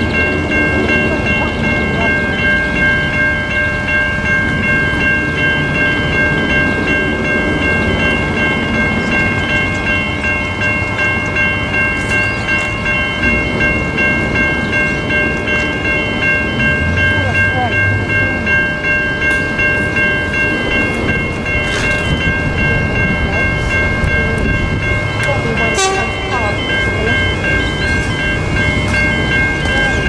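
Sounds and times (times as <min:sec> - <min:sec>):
level crossing warning bells: 0:00.0 - 0:30.0.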